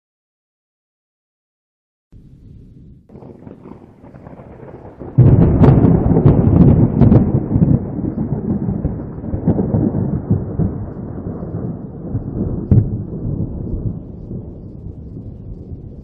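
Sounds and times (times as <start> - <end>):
low thunder rumble: 2.2 - 16.0
thunderclap with crackling: 2.2 - 16.0.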